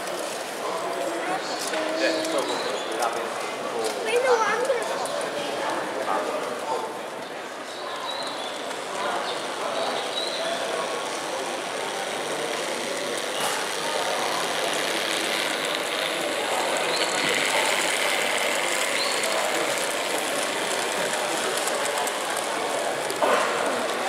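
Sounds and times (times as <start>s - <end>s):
exhibition hall noise: 0.0s - 24.0s
model trains running: 0.0s - 24.0s.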